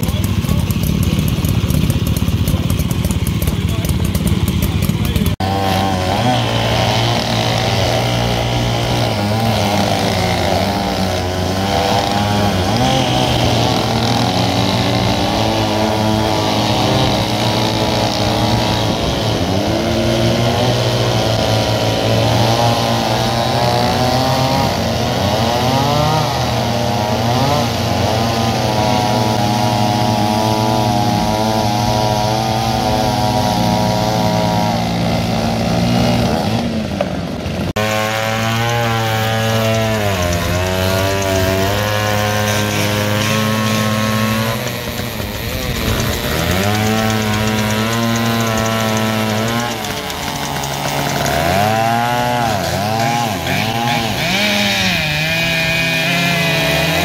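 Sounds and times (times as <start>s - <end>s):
chainsaws cutting logs: 0.0s - 57.0s.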